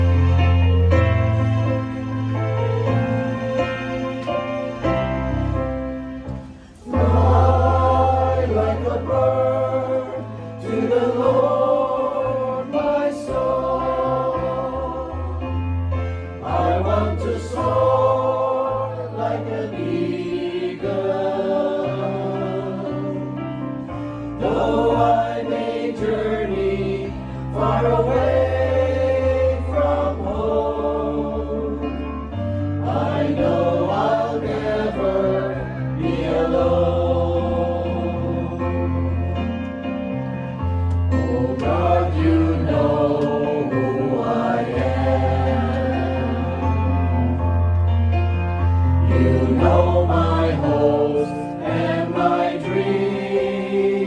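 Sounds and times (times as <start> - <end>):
gospel choir singing: 0.0 - 48.1, 48.7 - 54.0.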